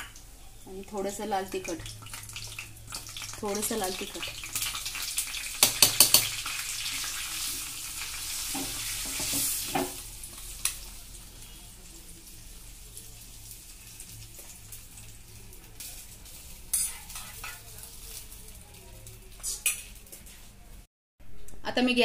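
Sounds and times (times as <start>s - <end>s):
spices sizzling in hot oil: 0.0s - 20.9s.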